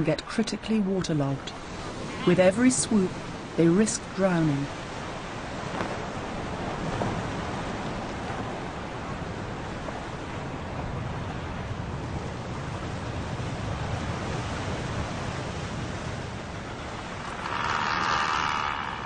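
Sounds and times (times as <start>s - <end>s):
wind: 0.0s - 19.0s
surf washing: 1.5s - 19.0s.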